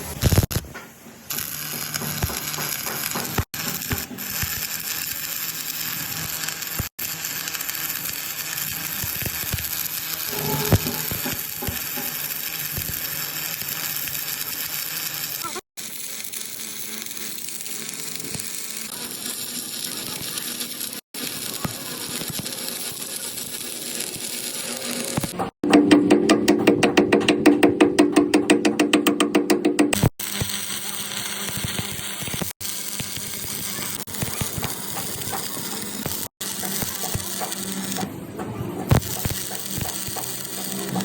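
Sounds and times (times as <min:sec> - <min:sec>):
welding arc crackling sizzle: 0:00.0 - 0:25.6, 0:28.6 - 0:41.0.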